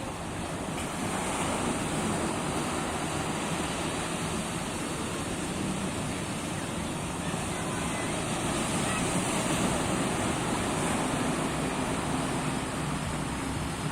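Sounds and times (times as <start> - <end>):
sea waves washing onto beach: 0.0 - 13.9.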